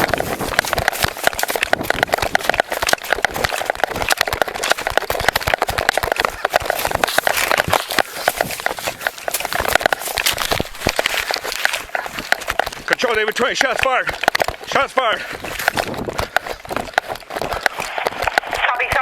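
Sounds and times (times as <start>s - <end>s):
camera knocking and rustling: 0.0s - 19.0s
running footsteps: 0.0s - 19.0s.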